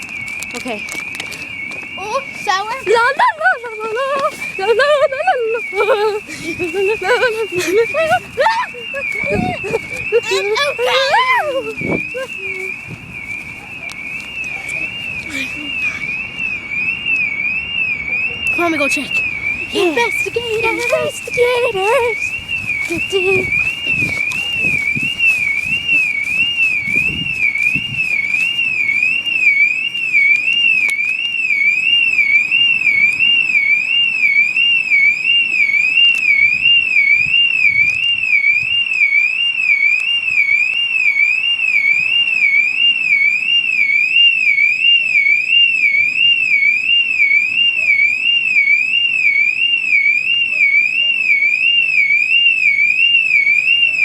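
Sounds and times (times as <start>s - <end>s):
car alarm warbling: 0.0s - 54.0s.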